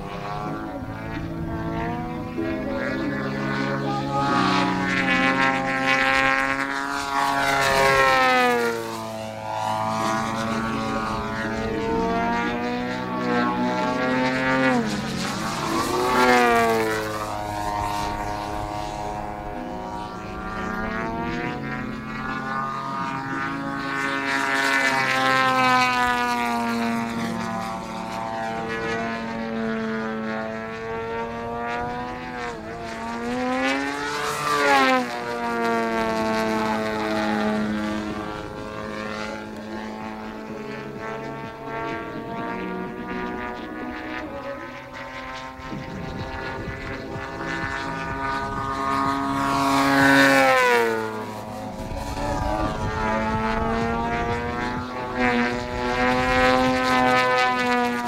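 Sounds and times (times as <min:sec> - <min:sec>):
model plane engine revving: 0:00.0 - 0:58.0.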